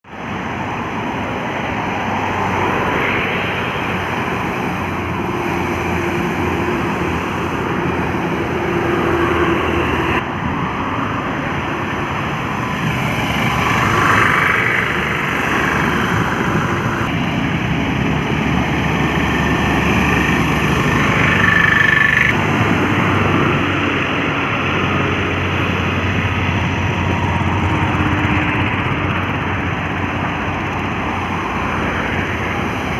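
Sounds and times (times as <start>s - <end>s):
highway traffic with trucks: 0.0s - 32.9s.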